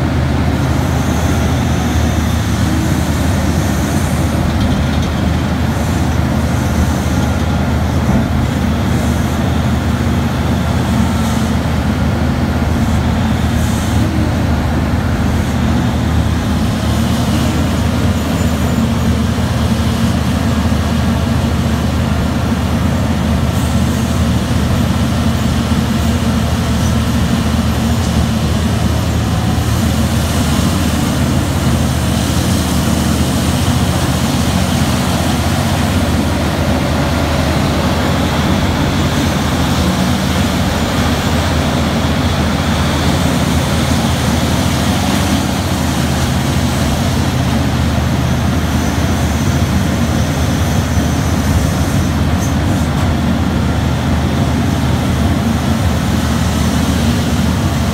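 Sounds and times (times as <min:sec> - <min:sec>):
heavy machine engine droning: 0:00.0 - 0:57.9.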